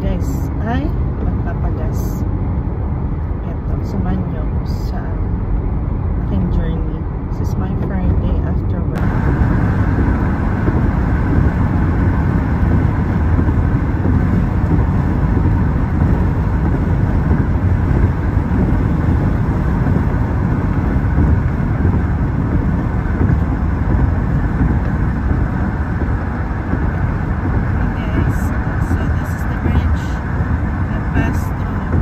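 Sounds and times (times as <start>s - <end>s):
car engine hum: 0.0s - 32.0s
tyre road noise: 0.0s - 32.0s.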